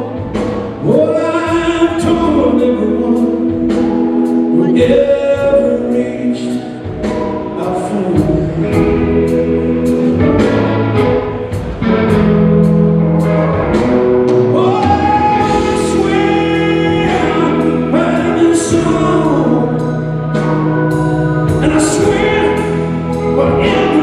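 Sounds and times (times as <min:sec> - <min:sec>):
rock band playing ballad: 0:00.0 - 0:24.0
steady drum beat: 0:00.0 - 0:24.0.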